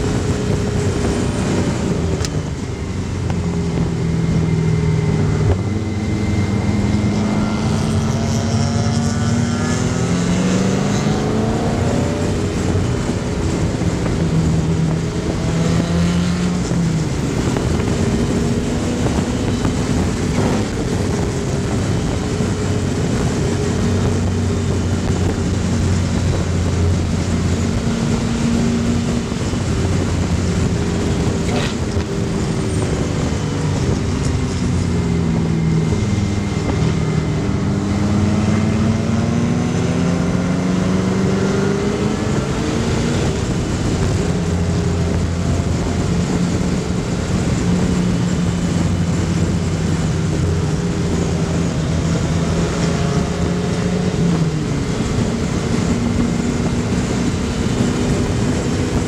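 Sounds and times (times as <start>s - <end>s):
race car engine at speed: 0.0s - 59.0s
wind rushing across roof: 7.7s - 59.0s.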